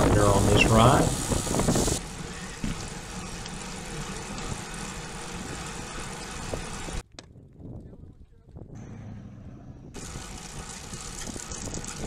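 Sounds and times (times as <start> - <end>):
bicycle road rumble: 0.0 - 12.0
wind: 0.0 - 12.0.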